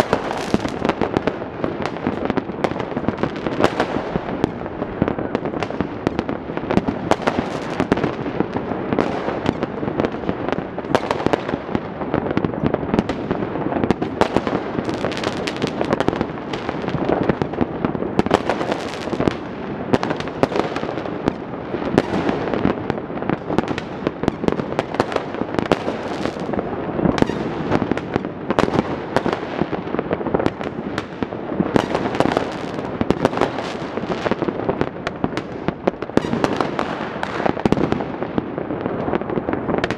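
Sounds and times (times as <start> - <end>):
fireworks and firecrackers crackling: 0.0 - 39.9.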